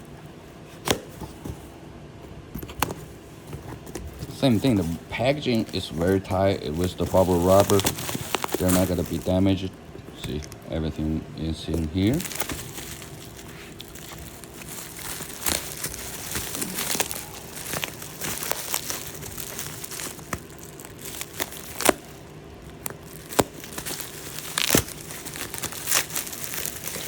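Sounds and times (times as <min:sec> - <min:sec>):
bubble wrap crinkling: 0:04.1 - 0:27.0
bubble wrap crackling and snapping: 0:04.3 - 0:27.0.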